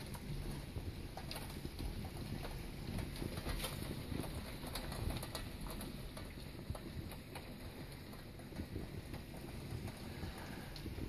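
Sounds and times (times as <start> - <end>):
heavy rain hissing: 0.0 - 11.0
raindrops pattering: 0.0 - 11.0.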